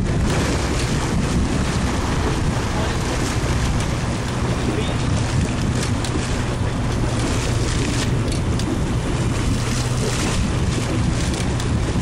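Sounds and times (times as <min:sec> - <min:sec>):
boat engine humming: 0:00.0 - 0:12.0
water washing along hull: 0:00.0 - 0:12.0
wind on microphone: 0:00.0 - 0:12.0.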